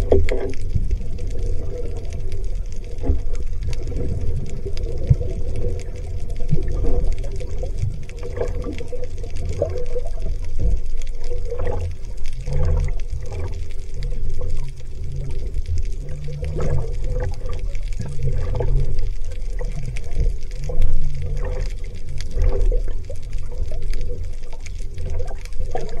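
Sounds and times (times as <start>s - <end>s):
low rumble: 0.0s - 26.0s
seawater sloshing and gurgling: 0.0s - 26.0s.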